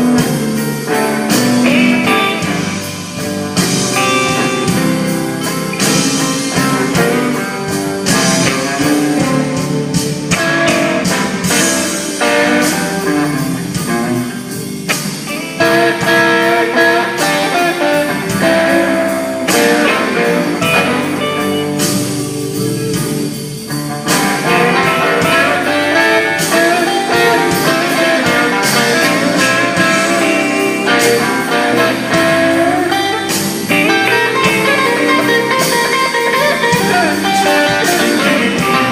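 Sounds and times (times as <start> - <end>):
blues-rock band with guitar: 0.0 - 38.9.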